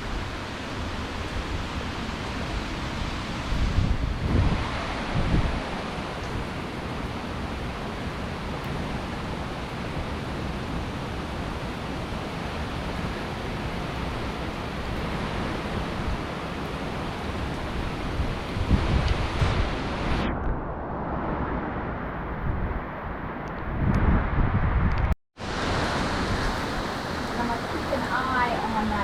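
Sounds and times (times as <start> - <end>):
hurricane wind and rain: 0.0 - 29.0
wind buffeting microphone: 0.0 - 29.0.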